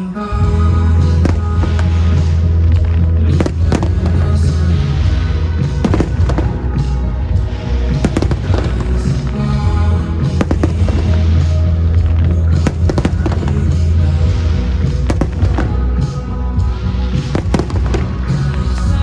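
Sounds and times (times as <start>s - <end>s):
music with heavy bass: 0.0s - 19.0s
fireworks bursting: 0.4s - 19.0s.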